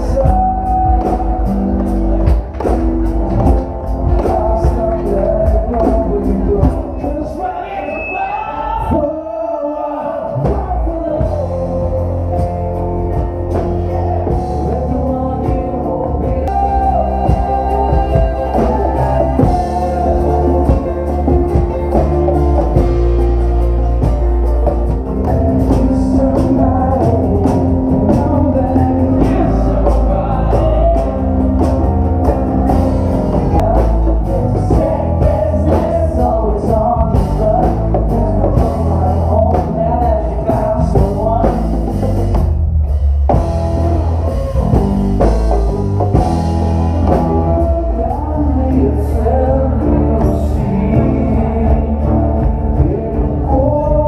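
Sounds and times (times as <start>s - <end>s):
person singing: 0.0s - 42.4s, 43.3s - 54.0s
bass guitar: 0.0s - 54.0s
drums: 0.0s - 54.0s
acoustic guitar: 10.5s - 54.0s.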